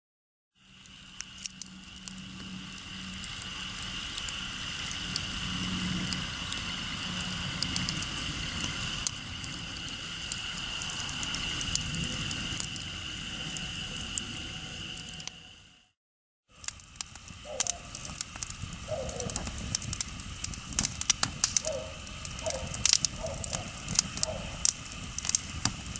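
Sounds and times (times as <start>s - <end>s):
campfire crackling and popping: 0.6s - 15.5s, 16.5s - 25.9s.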